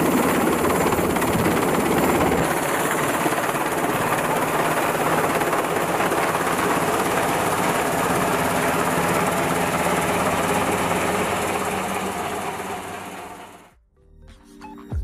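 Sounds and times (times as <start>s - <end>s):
helicopter engine and rotor: 0.0s - 13.7s.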